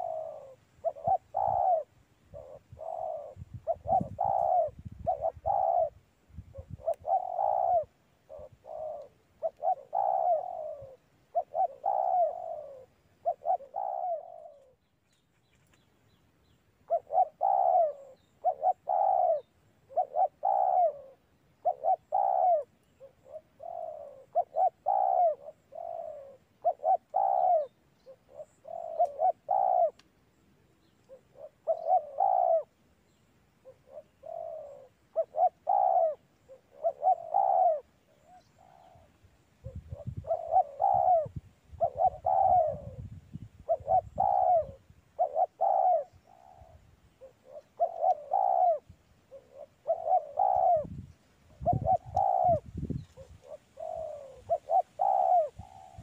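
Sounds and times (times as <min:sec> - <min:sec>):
dove cooing: 0:00.0 - 0:14.8, 0:16.8 - 0:30.0, 0:30.8 - 0:32.8, 0:33.6 - 0:56.0.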